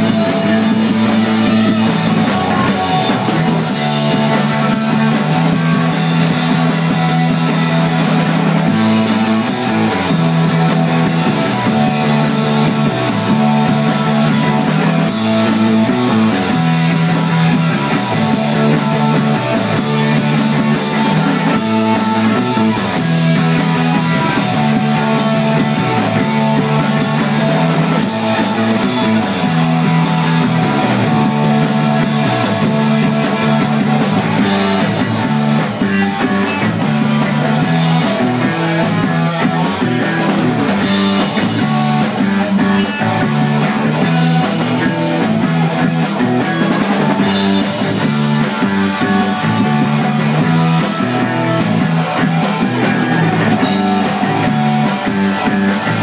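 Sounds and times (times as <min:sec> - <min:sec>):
distorted electric guitars: 0:00.0 - 0:56.0
drum kit steady beat: 0:00.0 - 0:56.0.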